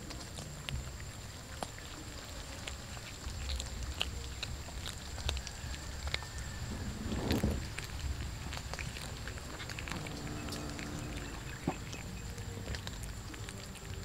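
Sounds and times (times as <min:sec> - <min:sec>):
cat chewing: 0:00.0 - 0:14.0.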